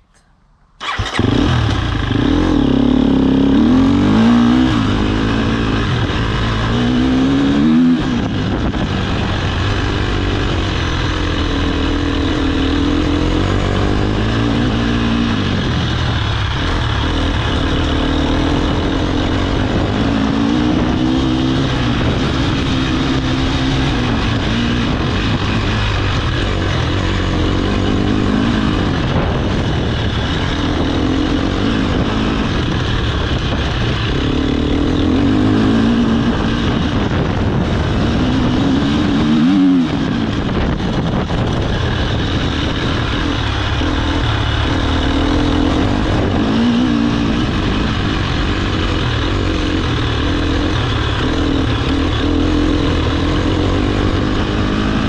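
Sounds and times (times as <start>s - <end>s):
motorcycle engine revving: 0.8s - 55.0s.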